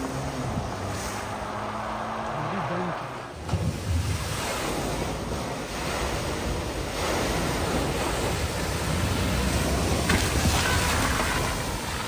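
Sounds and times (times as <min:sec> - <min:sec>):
car splashing through flood water: 0:00.0 - 0:12.0.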